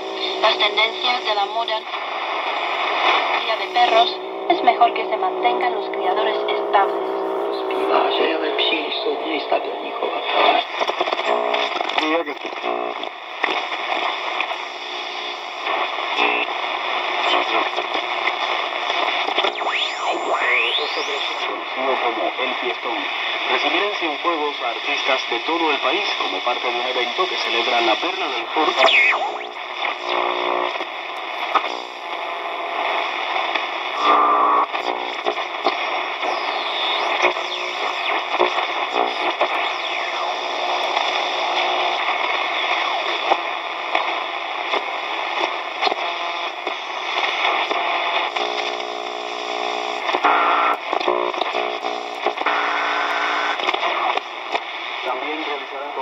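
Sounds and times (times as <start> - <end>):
radio voice: 0.0 - 48.9, 49.6 - 56.0
shortwave radio static and hiss: 0.0 - 56.0.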